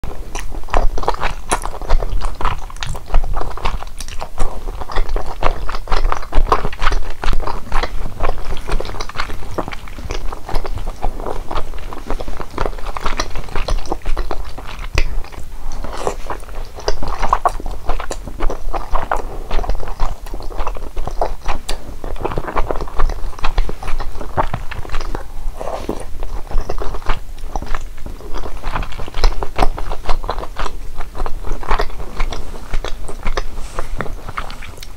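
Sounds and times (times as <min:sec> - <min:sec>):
person chewing and crunching food: 0:00.0 - 0:34.9.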